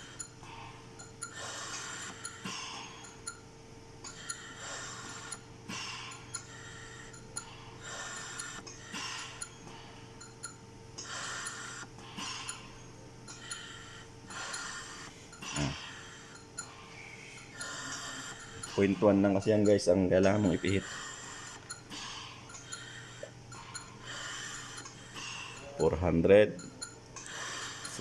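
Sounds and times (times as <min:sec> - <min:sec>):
steady low hum: 0:00.0 - 0:28.0
ventilator gas flow hiss: 0:00.0 - 0:28.0.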